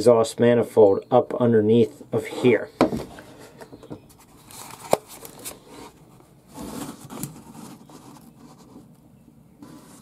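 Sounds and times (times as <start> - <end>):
rubbing and scraping handling noise: 1.7 - 10.0.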